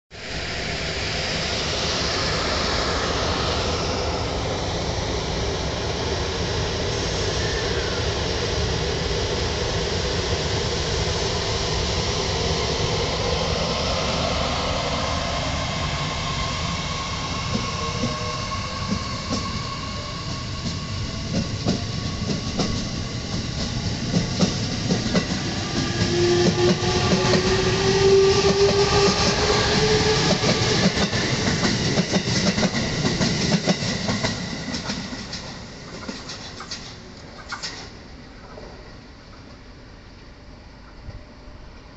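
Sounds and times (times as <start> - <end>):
train rumble: 0.1 - 41.9.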